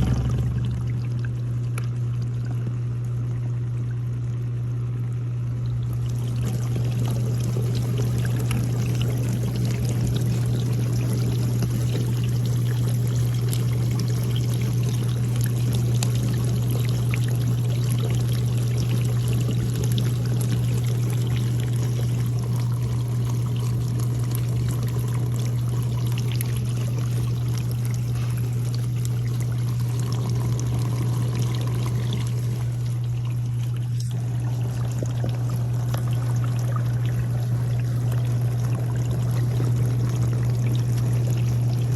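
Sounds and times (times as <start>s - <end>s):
dishwasher motor hum: 0.0s - 41.9s.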